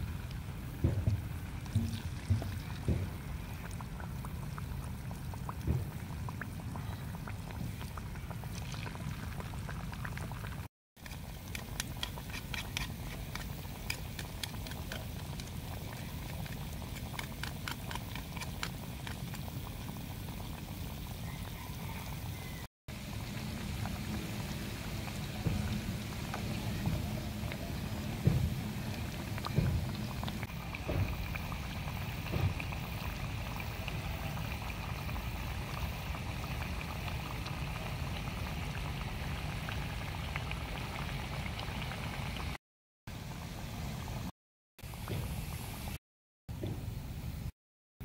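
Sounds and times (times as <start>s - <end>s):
oil sizzling and popping: 0.0s - 21.8s, 22.9s - 42.6s.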